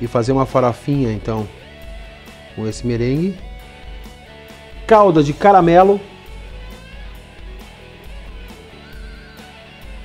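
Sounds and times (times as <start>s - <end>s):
soft guitar music with beat: 0.0s - 10.0s.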